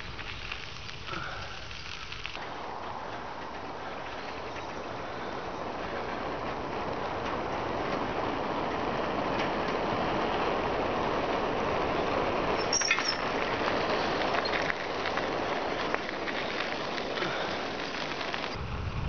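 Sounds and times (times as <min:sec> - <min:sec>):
bicycle rolling on path: 0:00.0 - 0:19.0
wind rushing on microphone: 0:00.0 - 0:19.0.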